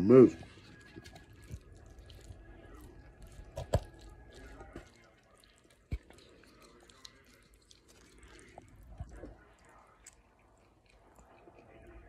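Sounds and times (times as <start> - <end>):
fork squishing pasta: 0.1 - 12.0.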